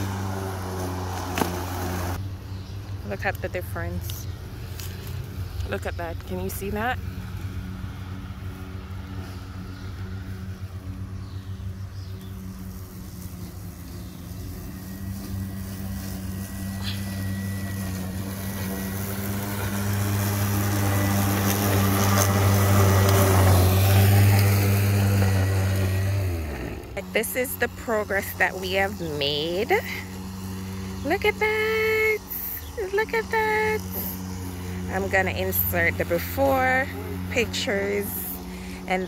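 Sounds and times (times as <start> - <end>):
electric lawn mower cutting grass: 0.0 - 39.0.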